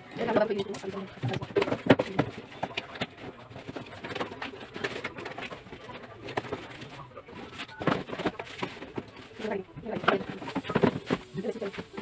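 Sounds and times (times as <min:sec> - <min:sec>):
cardboard boxes rustling: 0:00.2 - 0:12.0.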